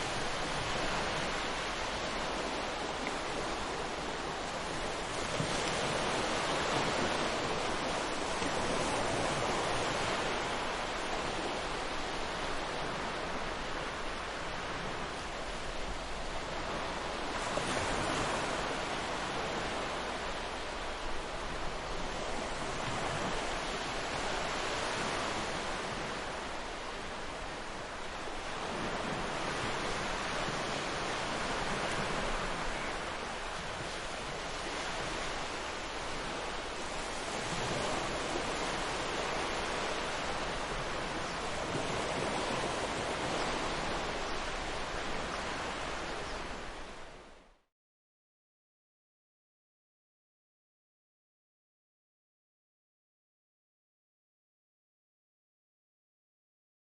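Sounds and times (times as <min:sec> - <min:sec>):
waves breaking on beach: 0:00.0 - 0:47.6.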